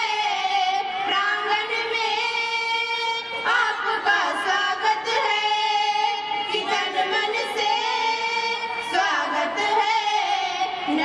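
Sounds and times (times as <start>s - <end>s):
girls singing into microphones: 0.0s - 11.0s.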